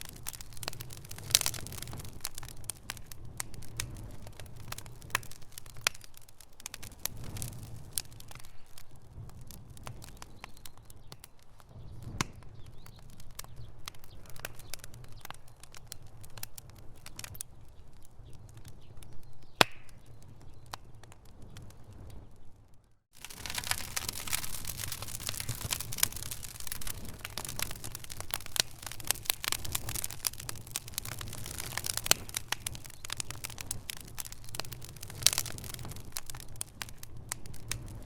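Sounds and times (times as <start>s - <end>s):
sharp pops and snaps: 0.0s - 8.9s, 9.8s - 17.5s, 18.6s - 21.2s, 23.1s - 38.0s
low rumble of flames: 0.0s - 38.0s
wood fire crackling: 0.0s - 38.0s.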